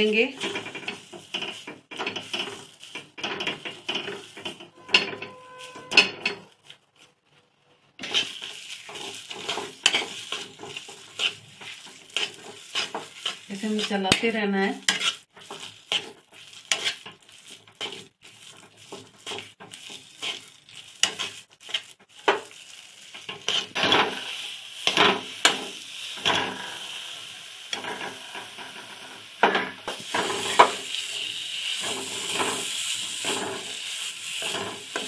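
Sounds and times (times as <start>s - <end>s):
soft sizzle: 0.0s - 35.0s
spatula scraping a pan: 0.3s - 6.7s, 8.0s - 26.9s, 29.9s - 35.0s.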